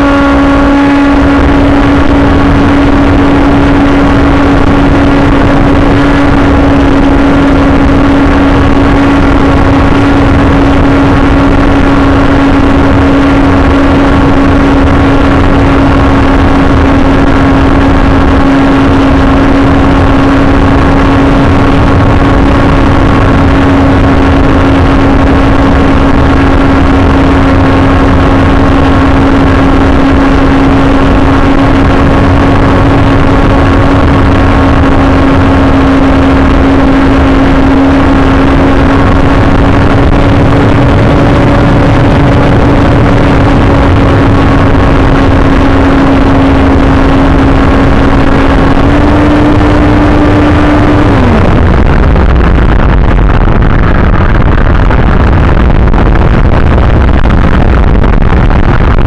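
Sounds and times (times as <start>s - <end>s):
electric motor and propeller drone: 0.0s - 51.8s
wind rush: 0.0s - 59.0s.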